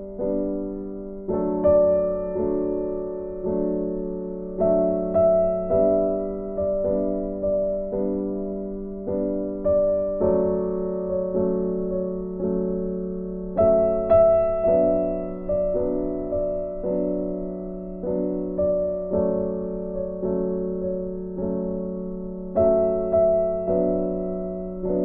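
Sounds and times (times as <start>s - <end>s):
soft slow piano melody: 0.0s - 25.0s.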